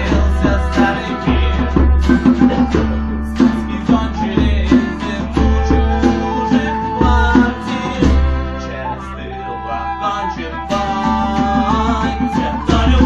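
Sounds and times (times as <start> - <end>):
acoustic guitar band music: 0.0 - 13.0.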